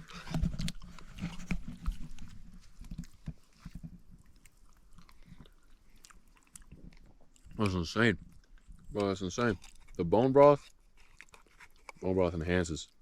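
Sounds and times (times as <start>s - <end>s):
person chewing: 0.0s - 12.1s.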